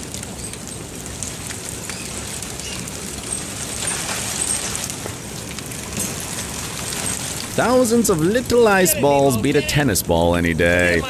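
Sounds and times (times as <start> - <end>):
hailstones clattering on ground: 0.0 - 9.9.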